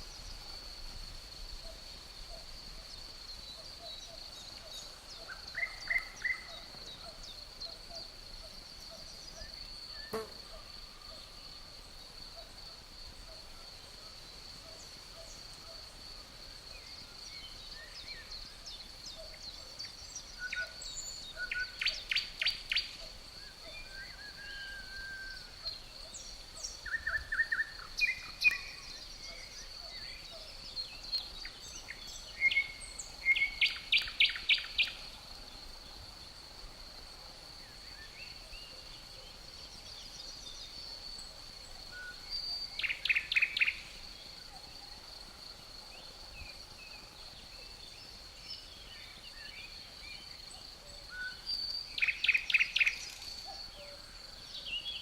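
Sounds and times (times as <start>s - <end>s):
crickets trilling: 0.0s - 55.0s
songbirds chirping: 0.0s - 55.0s.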